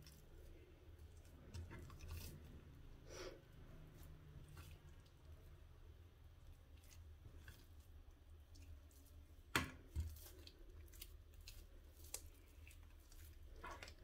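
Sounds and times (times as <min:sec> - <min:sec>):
dough squishing: 0:00.0 - 0:14.0
low steady hum: 0:00.0 - 0:14.0.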